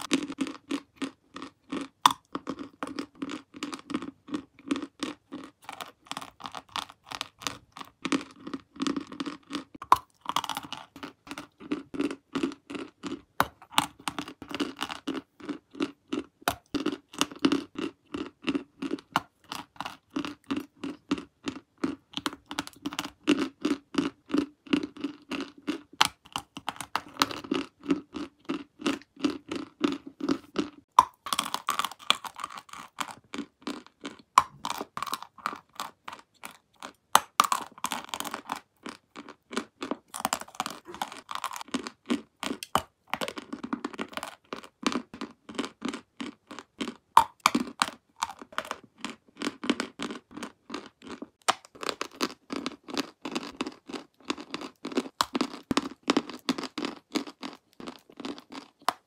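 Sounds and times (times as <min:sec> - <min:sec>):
chewing dry crunchy chalk: 0:00.0 - 0:59.0.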